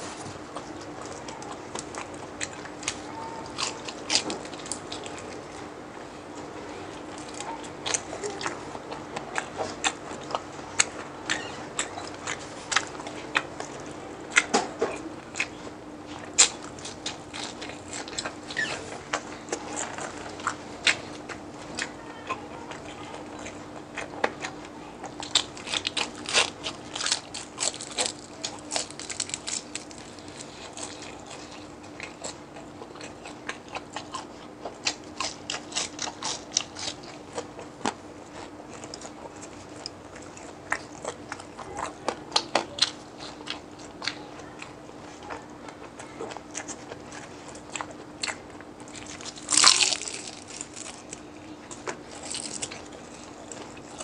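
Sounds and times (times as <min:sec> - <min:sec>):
crunching crispy food: 0:00.0 - 0:54.0
steady low hum: 0:00.0 - 0:54.0.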